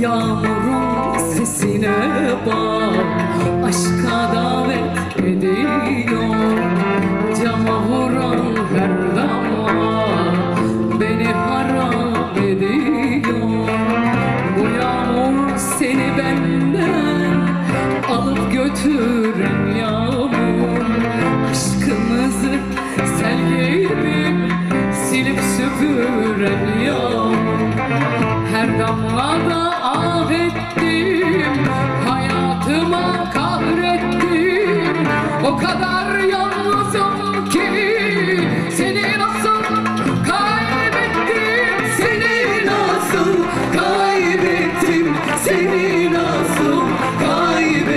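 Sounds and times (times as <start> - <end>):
bass guitar: 0.0 - 47.9
plucked strings: 0.0 - 47.9
violin: 0.0 - 47.9
woman singing: 0.0 - 47.9.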